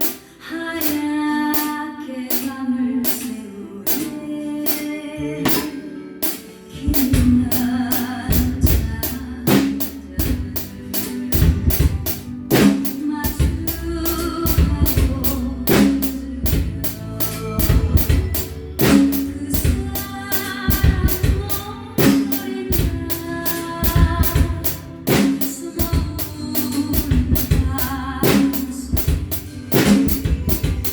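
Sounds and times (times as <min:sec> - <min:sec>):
drum kit playing: 0:00.0 - 0:30.9
recorded song with singing: 0:00.0 - 0:30.9.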